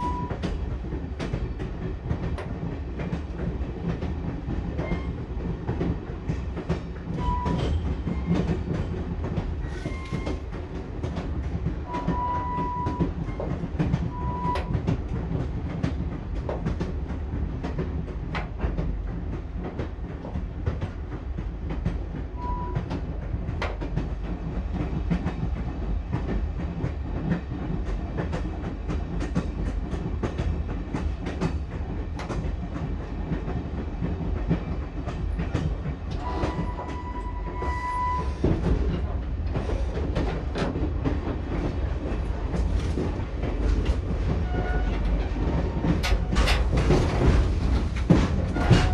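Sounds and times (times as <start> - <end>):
low rumble of moving carriage: 0.0 - 48.9
train wheels clattering: 0.0 - 48.9.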